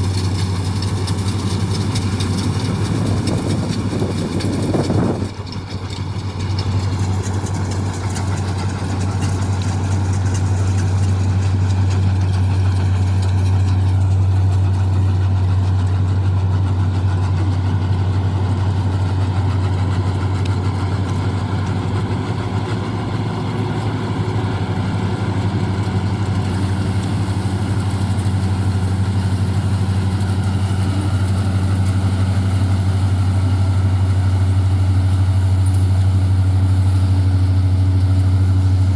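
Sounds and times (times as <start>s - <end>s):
harvester engine droning: 0.0s - 38.9s.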